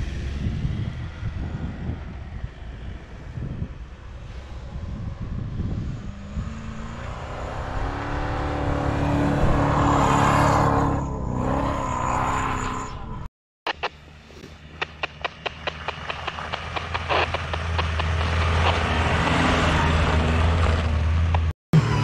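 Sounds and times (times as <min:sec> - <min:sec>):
car engine revving: 0:03.4 - 0:22.0.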